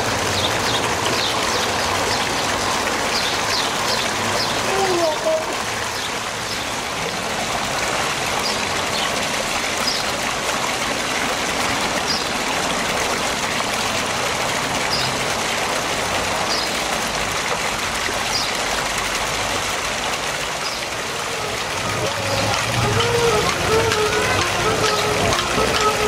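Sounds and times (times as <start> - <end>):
water falling over rocks: 0.0 - 26.0
water splashing into pond: 0.0 - 26.0.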